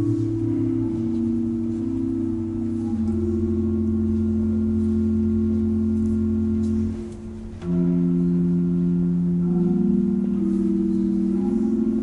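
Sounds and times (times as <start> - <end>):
pipe organ chords: 0.0 - 12.0.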